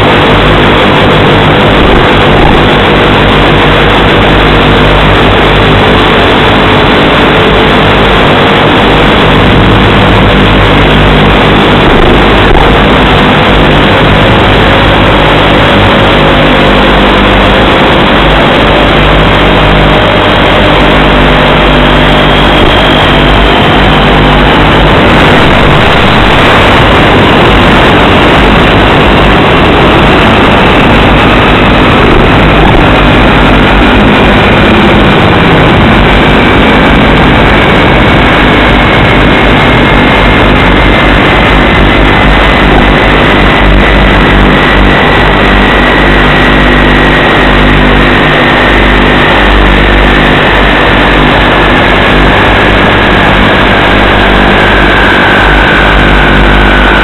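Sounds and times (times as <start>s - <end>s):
faint whine falling in pitch: 0.0s - 57.0s
model airplane motor drone: 0.0s - 57.0s.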